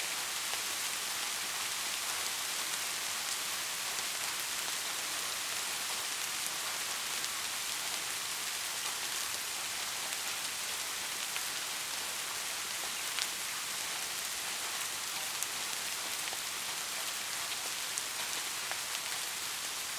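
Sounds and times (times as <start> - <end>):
steady rain hiss: 0.0 - 19.9
raindrops ticking on a surface: 0.1 - 19.9.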